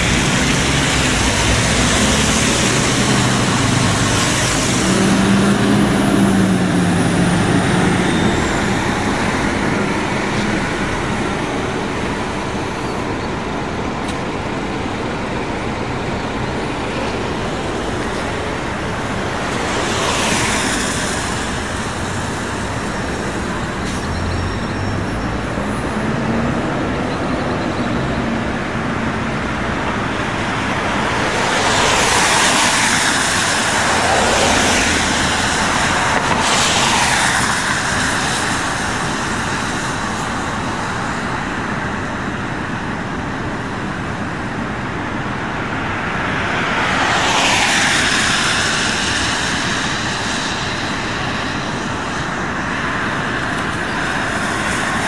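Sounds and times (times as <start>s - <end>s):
background traffic noise: 0.0s - 55.0s
buses driving past: 0.0s - 55.0s.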